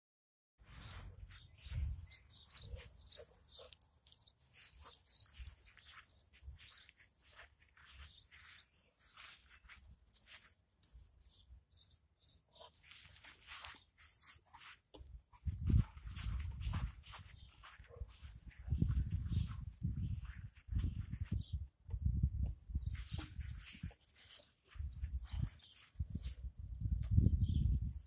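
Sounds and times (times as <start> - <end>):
small birds chirping: 0.6 - 28.0.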